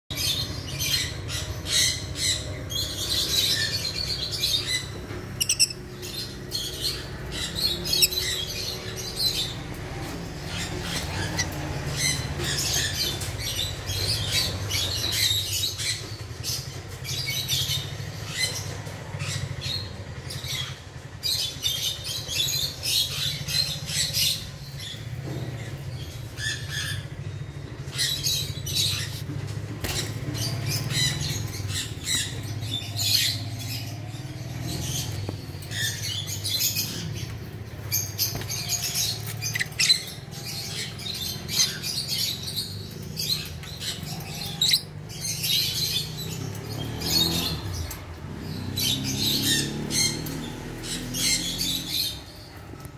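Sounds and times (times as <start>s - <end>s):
bird chicks chirping and squawking: 0.1s - 52.9s.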